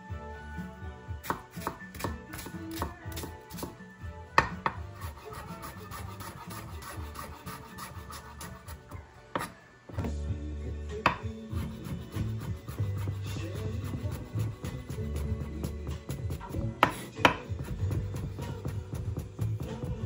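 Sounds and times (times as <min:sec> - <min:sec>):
knife chopping on wooden board: 0:01.2 - 0:03.8, 0:04.4 - 0:10.1, 0:11.1 - 0:19.9.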